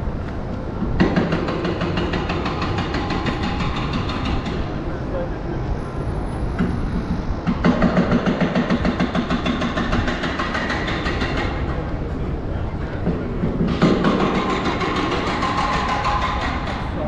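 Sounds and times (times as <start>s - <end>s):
light-rail train passing: 0.0s - 17.0s
train wheels clacking: 0.8s - 4.8s, 6.5s - 12.0s, 12.8s - 17.0s.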